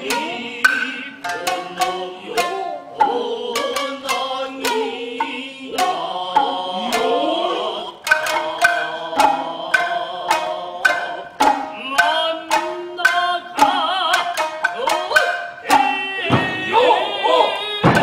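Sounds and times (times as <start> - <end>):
person singing sliding vocal line: 0.0 - 18.0
shamisen: 0.0 - 18.0
sharp percussive strikes: 0.0 - 18.0.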